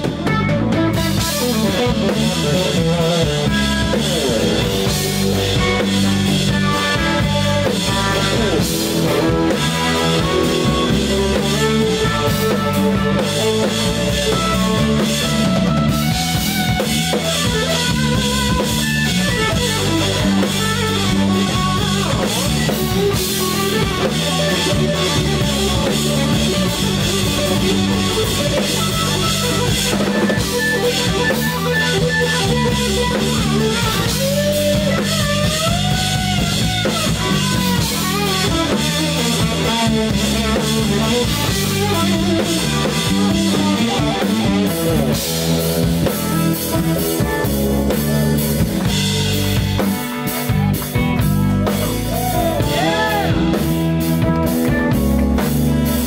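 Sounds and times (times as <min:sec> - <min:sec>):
drum kit: 0:00.0 - 0:56.0
electric bass: 0:00.0 - 0:56.0
electric guitar lead lines: 0:00.0 - 0:56.0.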